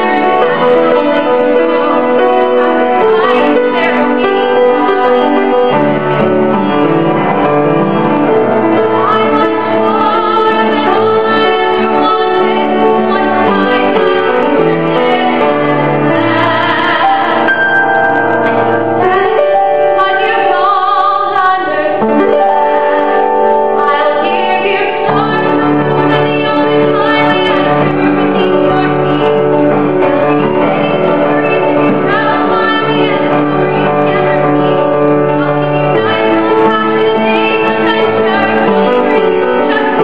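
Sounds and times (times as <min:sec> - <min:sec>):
woman singing: 0:00.0 - 0:06.0, 0:08.6 - 0:18.0, 0:19.0 - 0:40.0
piano accompaniment: 0:00.0 - 0:40.0.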